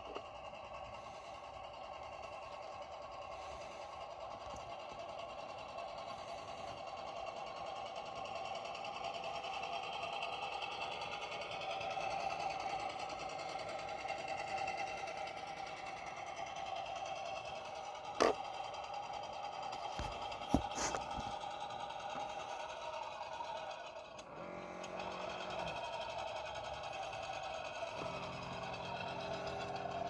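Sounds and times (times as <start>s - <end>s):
small electric motor whine: 3.3s - 30.0s.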